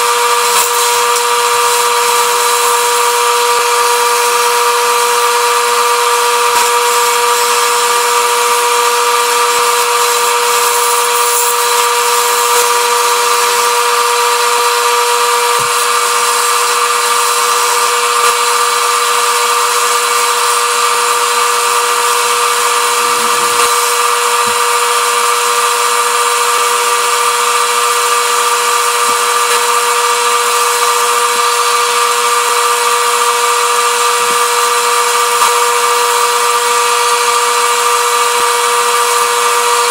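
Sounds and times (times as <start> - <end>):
turning tool cutting wood: 0.0 - 39.9
wood lathe motor whine: 0.0 - 39.9.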